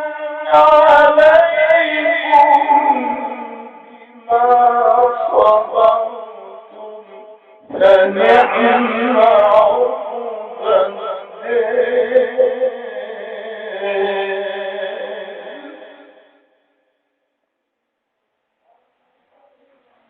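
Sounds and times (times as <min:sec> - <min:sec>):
man chanting melodically: 0:00.0 - 0:16.6.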